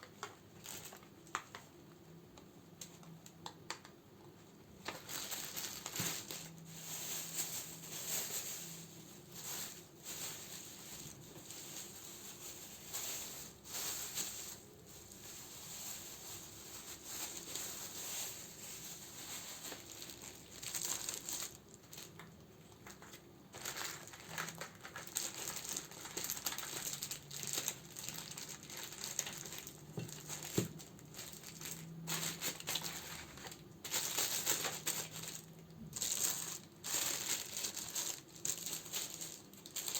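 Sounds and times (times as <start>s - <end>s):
plastic wrapping and paper crinkling: 0.0s - 39.9s.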